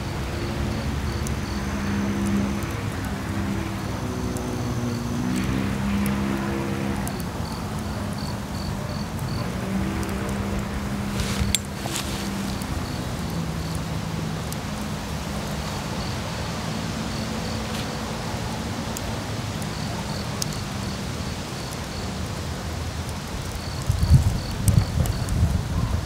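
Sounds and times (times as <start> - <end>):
insects chirping: 0.0 - 25.4.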